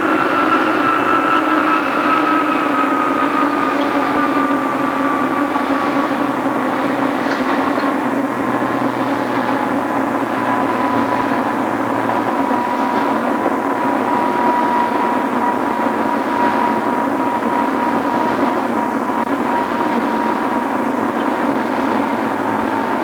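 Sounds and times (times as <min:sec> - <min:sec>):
train high whine: 0:00.0 - 0:23.0
train wheels rumbling on rails: 0:00.0 - 0:23.0.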